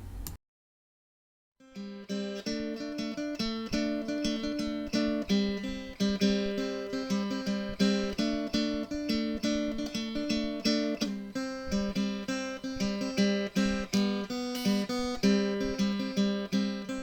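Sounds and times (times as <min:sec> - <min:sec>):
strummed acoustic guitar: 0:01.6 - 0:17.0.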